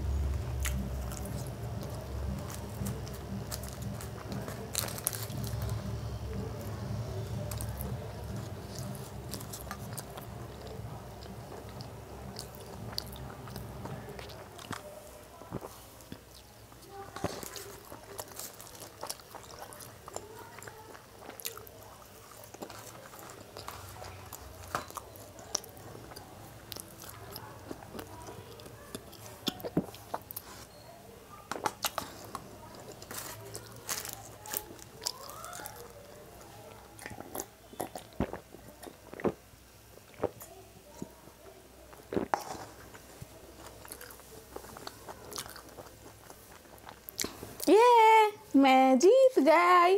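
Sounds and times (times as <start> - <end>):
chewing with wet mouth sounds: 0.0 - 47.7
light crunches of chewing: 0.4 - 5.9, 6.5 - 47.7.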